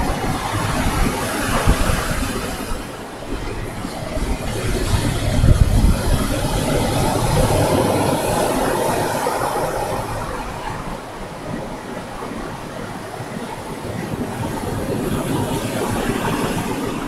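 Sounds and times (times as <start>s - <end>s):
wave breaking on beach: 0.0s - 17.0s
wind buffeting microphone: 0.0s - 17.0s.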